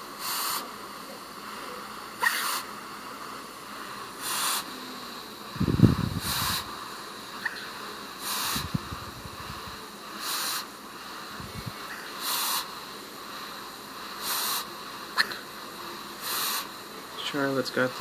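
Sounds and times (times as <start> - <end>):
puffing hiss: 0.0 - 18.0.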